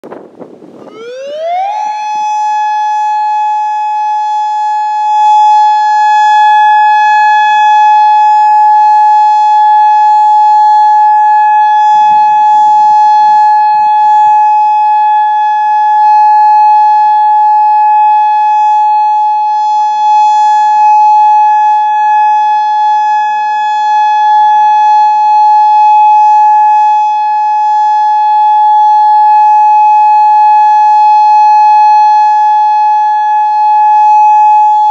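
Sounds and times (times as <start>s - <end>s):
electronic tornado siren: 0.0s - 34.9s.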